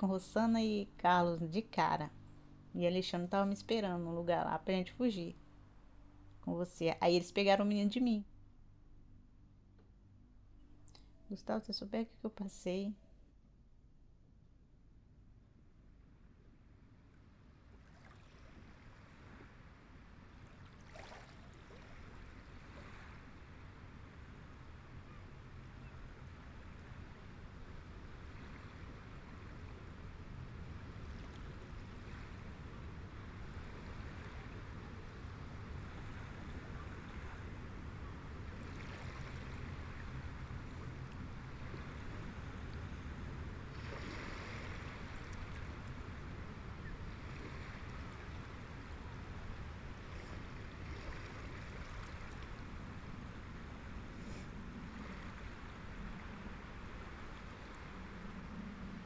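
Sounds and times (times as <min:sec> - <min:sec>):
low ambient rumble with hiss: 0:00.0 - 0:59.0.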